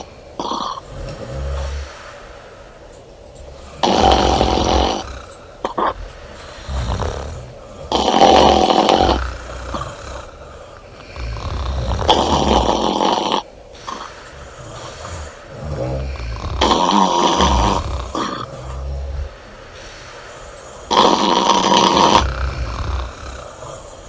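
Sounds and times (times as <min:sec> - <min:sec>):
woman snoring: 0:00.0 - 0:02.4, 0:03.5 - 0:24.0.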